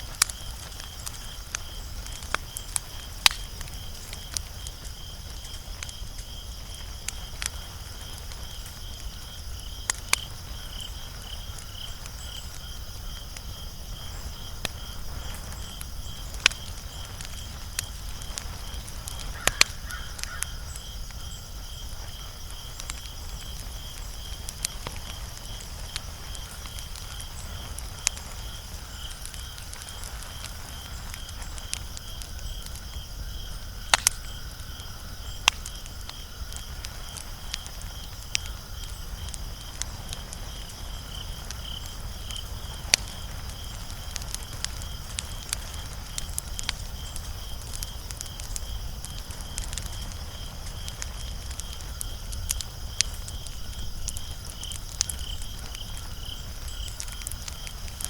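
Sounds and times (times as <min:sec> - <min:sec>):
crickets chirping: 0:00.0 - 0:58.0
wood fire crackling: 0:00.0 - 0:58.0.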